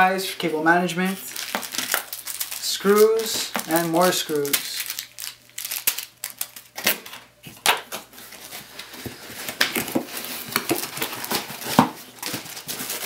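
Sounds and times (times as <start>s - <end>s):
packaging crinkling: 1.0s - 13.0s.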